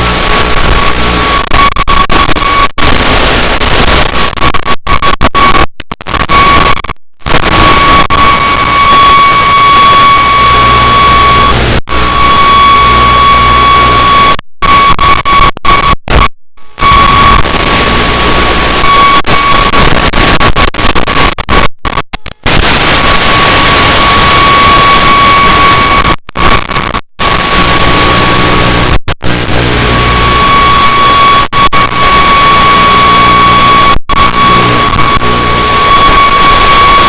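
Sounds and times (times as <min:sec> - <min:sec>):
high-pitched buzz tone: 0:00.0 - 0:37.0
radio static hiss: 0:00.0 - 0:37.0.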